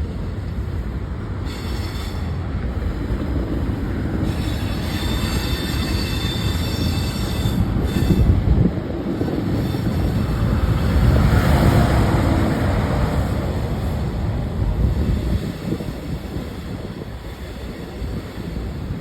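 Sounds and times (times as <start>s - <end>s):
train rolling past: 0.0s - 19.0s.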